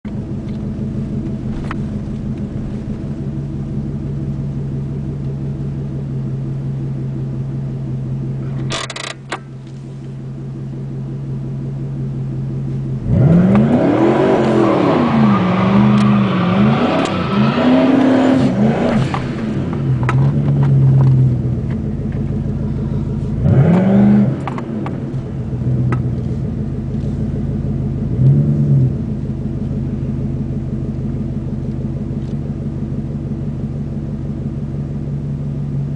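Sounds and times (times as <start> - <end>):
car engine idling and revving: 0.0 - 35.9.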